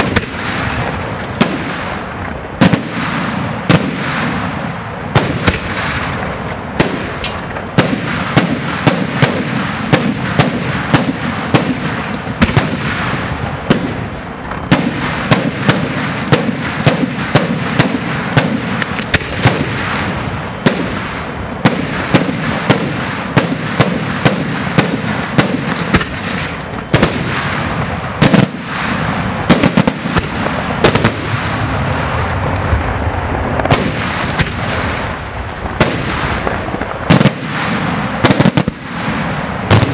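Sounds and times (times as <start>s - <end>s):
firework shells bursting: 0.0s - 39.9s.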